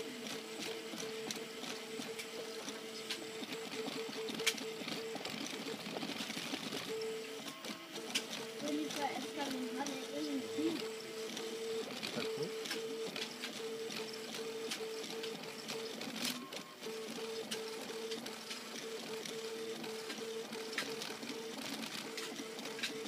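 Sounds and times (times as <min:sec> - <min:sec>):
stepper motors whining in pulses: 0:00.0 - 0:23.0.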